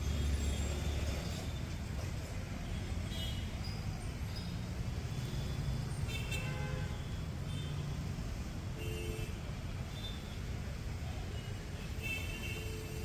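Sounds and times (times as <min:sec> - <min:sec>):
rumble of passing cars and scooters: 0:00.0 - 0:13.0.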